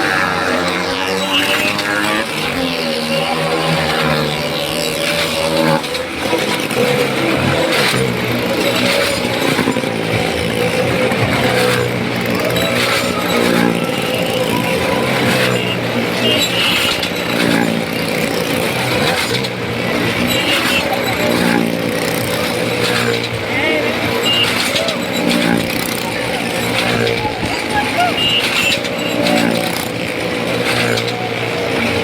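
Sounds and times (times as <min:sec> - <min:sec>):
motorcycle engines revving high: 0:00.0 - 0:32.0.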